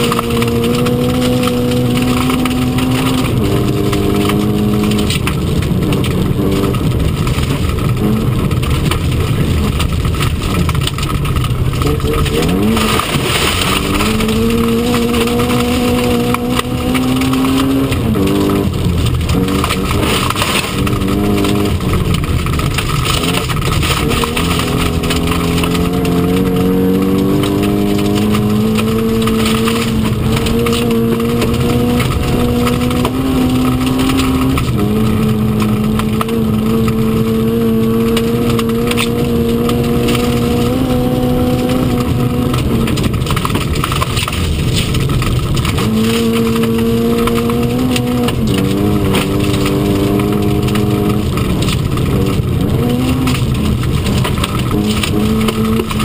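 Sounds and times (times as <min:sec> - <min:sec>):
car engine revving: 0:00.0 - 0:56.0
tyre and road rumble: 0:00.0 - 0:56.0.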